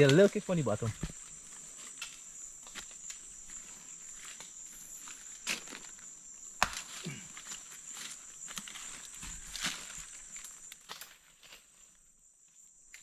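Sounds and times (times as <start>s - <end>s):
twigs crackling: 0.0s - 11.8s
footsteps crunching through dry leaves: 0.0s - 12.0s
high insect drone: 0.0s - 13.0s.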